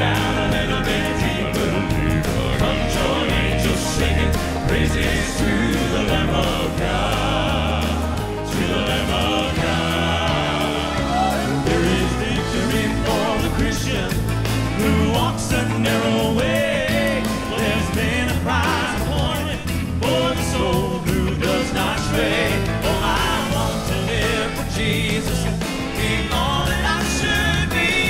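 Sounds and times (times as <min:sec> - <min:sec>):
band accompaniment: 0:00.0 - 0:28.0
male quartet singing gospel: 0:00.0 - 0:28.0
steady drum beat: 0:00.0 - 0:28.0.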